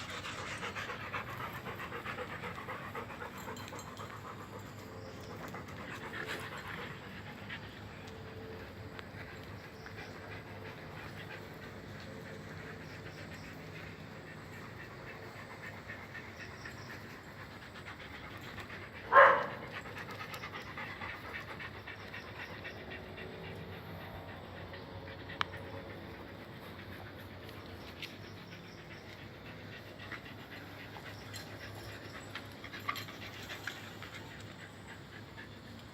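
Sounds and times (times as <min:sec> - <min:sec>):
dog panting: 0:00.0 - 0:35.9.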